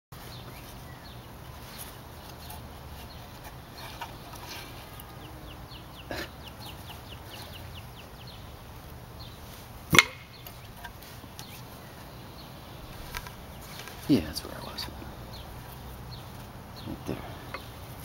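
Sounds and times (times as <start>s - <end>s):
outdoor background noise: 0.1s - 18.0s.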